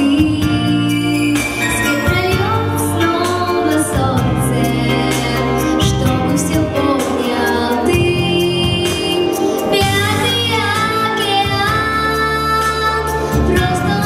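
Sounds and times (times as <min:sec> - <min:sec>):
girl singing into a microphone: 0:00.0 - 0:14.0
instrumental backing with beat: 0:00.0 - 0:14.0.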